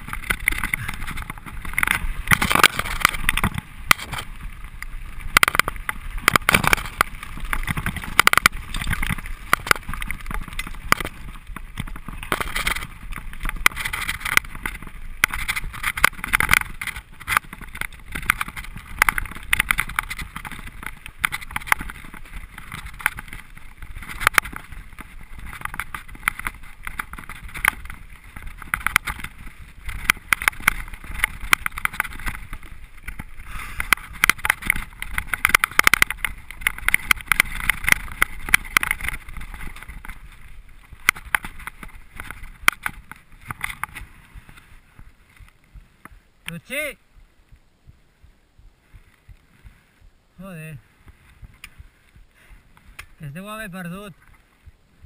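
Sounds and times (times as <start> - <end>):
bike rattling over bumps: 0.0 - 47.2
tyre and wind rush: 0.0 - 55.0.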